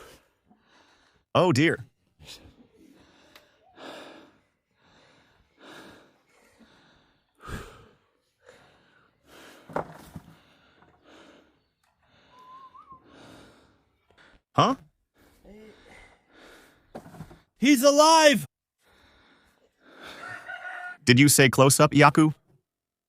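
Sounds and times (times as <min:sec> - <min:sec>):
heavy breathing: 0:00.0 - 0:01.3, 0:02.1 - 0:17.6, 0:18.8 - 0:20.6.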